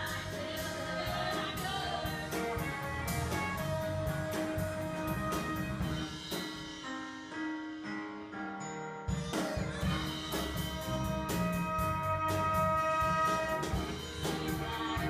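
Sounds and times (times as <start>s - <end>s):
jazzy band music: 0.0s - 15.0s.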